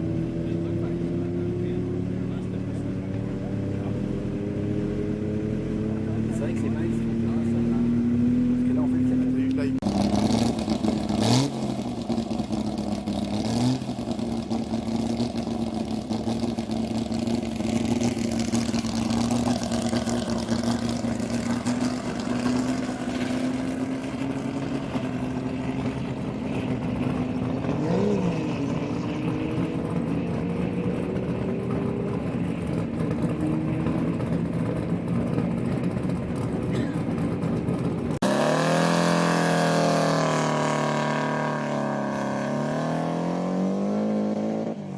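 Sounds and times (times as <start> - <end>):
racing vehicle engine running: 0.0 - 44.9.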